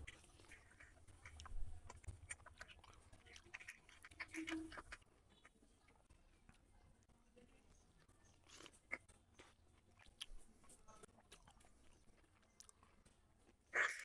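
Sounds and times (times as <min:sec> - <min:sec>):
fingers mixing rice wet clicks: 0:00.0 - 0:14.0.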